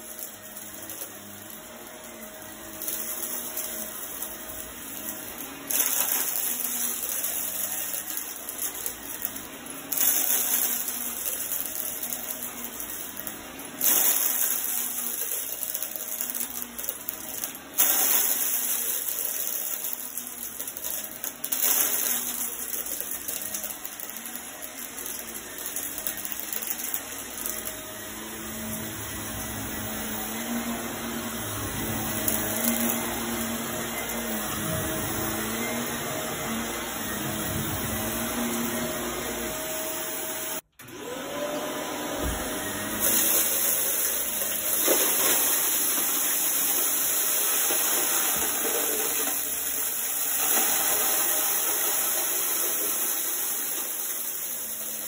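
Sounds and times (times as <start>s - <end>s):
upright vacuum cleaner running: 0.0s - 55.0s.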